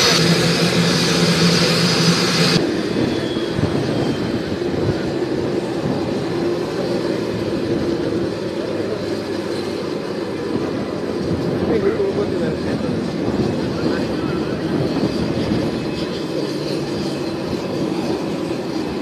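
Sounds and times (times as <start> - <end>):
jet engines whining and hissing: 0.0 - 19.0.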